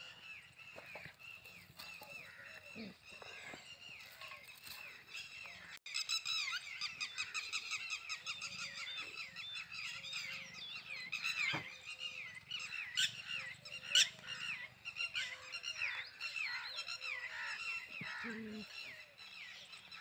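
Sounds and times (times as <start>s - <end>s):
sharp bird calls: 0.0s - 20.0s
small birds chirping: 0.0s - 20.0s.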